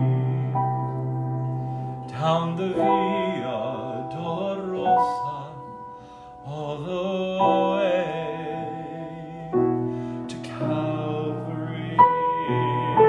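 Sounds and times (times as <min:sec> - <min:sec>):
man singing with vibrato: 0:00.0 - 0:01.4, 0:02.0 - 0:13.0
piano playing slow hymn: 0:00.0 - 0:13.0.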